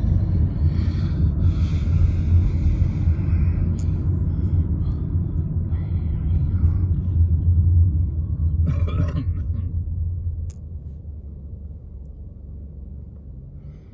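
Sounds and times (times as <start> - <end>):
car engine and tyres rumbling: 0.0 - 13.9.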